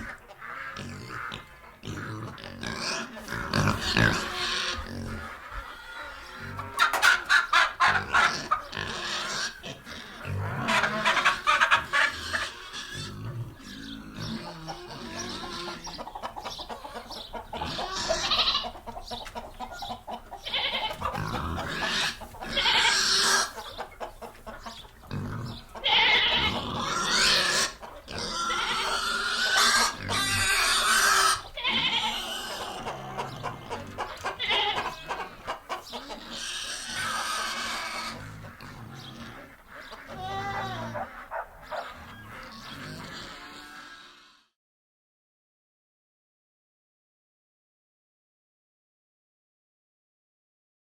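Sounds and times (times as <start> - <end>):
pigs grunting: 0.0 - 44.5
pigs squealing: 0.0 - 44.5.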